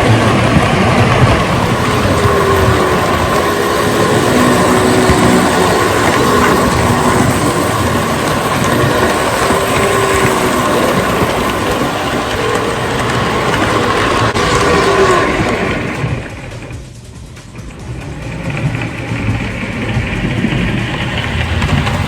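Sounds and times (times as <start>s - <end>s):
toy train motor whirring: 0.0s - 22.0s
toy train wheels rumbling: 0.0s - 22.0s.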